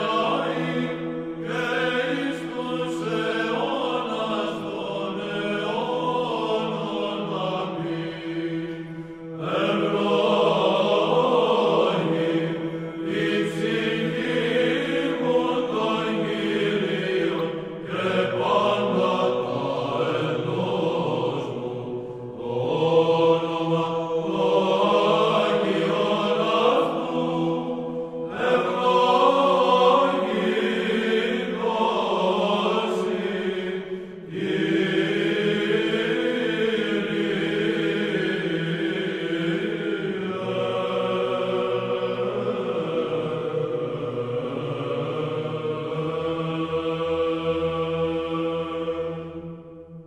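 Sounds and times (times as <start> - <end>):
voices singing a chant: 0.0 - 50.0.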